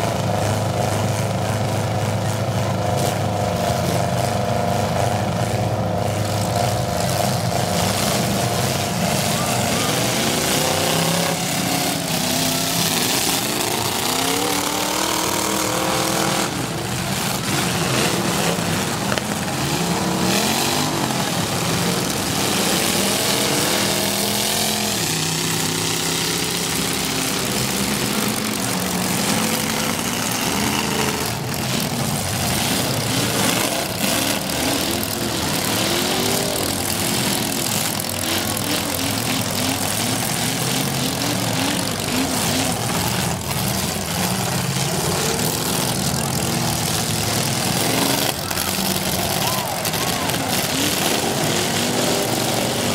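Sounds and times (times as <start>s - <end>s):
car engines revving hard: 0.0s - 52.9s.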